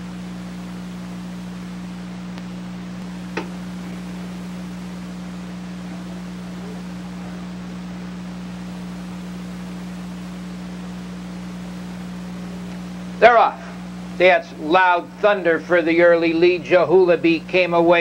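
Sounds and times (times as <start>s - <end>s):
electrical hum with hiss: 0.0s - 18.0s.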